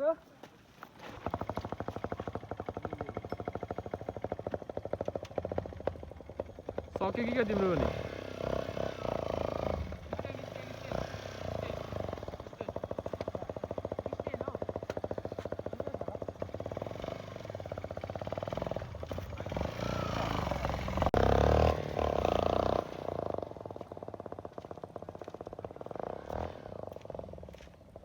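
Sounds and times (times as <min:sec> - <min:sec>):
motorcycle engine idling and revving: 0:00.8 - 0:28.0.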